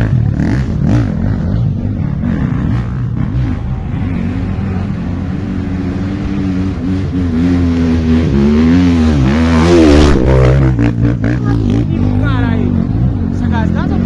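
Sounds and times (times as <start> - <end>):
off-road motorcycle engine revving: 0.0 - 14.0.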